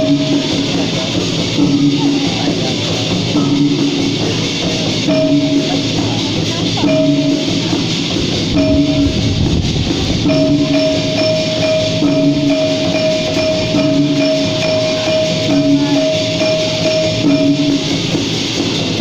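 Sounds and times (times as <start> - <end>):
long ringing tones: 0.0 - 19.0
percussion ensemble music: 0.0 - 19.0.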